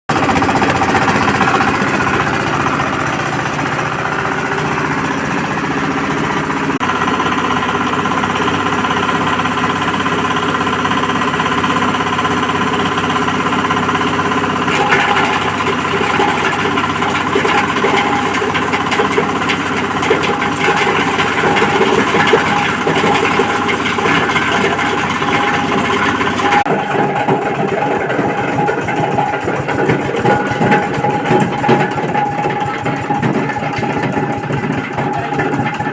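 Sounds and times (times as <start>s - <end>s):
fast rattle: 0.1s - 35.9s
grinding machine hum: 0.1s - 35.9s.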